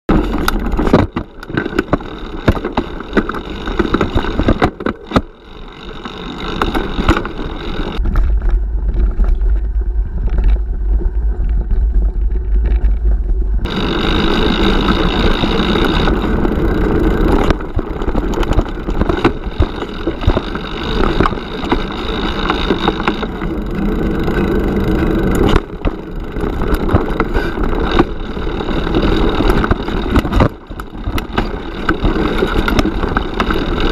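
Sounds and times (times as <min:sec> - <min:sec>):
bike rattling and knocking: 0:00.1 - 0:33.9
tyres rolling over stones: 0:00.1 - 0:33.9
wind rumble on microphone: 0:06.6 - 0:33.9.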